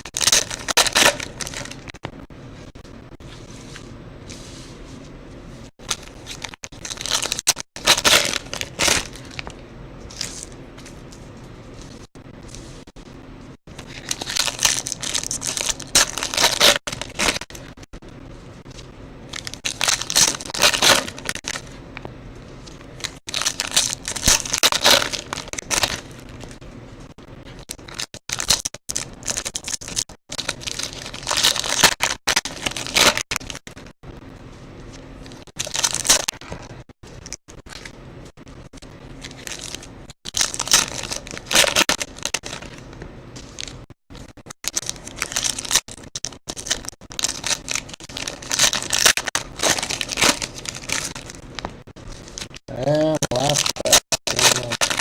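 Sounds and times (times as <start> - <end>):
card pack wrappers crinkling: 0.0 - 2.0, 5.8 - 12.6, 13.8 - 17.8, 19.3 - 21.8, 22.6 - 26.6, 27.6 - 33.9, 35.2 - 37.9, 39.2 - 55.0.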